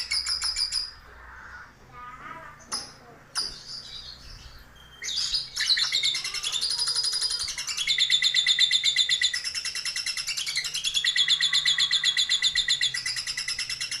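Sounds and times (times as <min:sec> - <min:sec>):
lovebird chattering trill: 0:00.0 - 0:01.7, 0:02.6 - 0:14.0.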